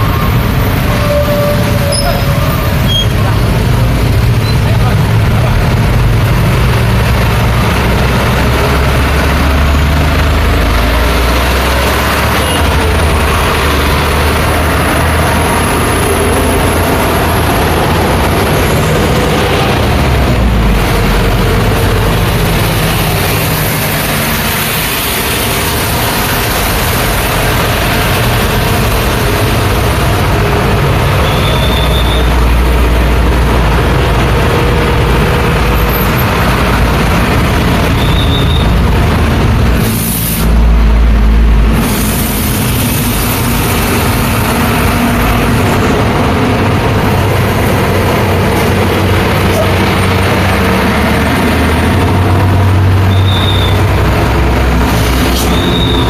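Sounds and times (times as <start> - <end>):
heavy vehicle engine rumble: 0.0 - 56.0
street traffic: 0.0 - 56.0.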